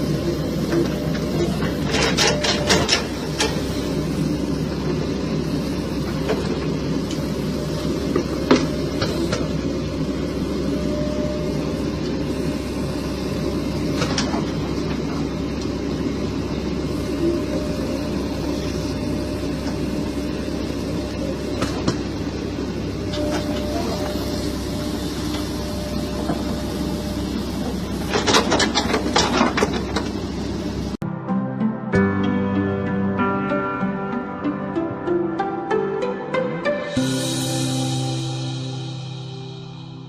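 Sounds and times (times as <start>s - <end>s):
heavy machinery running: 0.0s - 31.0s, 33.8s - 40.0s.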